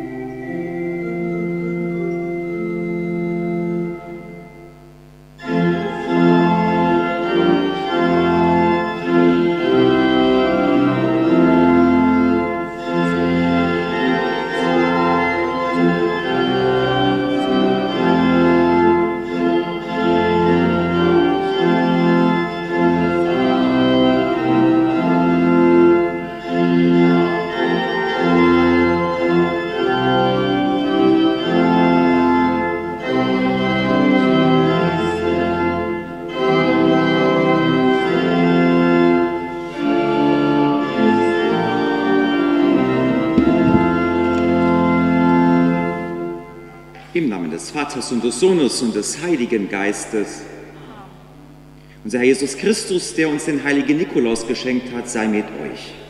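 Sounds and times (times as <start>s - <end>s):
church organ playing chords: 0.0s - 50.8s, 51.4s - 56.0s.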